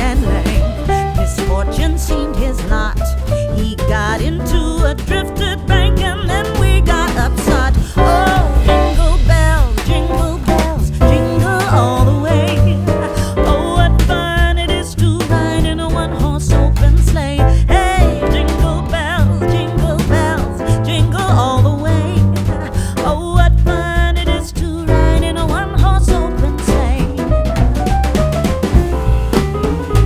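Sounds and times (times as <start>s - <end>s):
pop song with vocals: 0.0s - 27.9s.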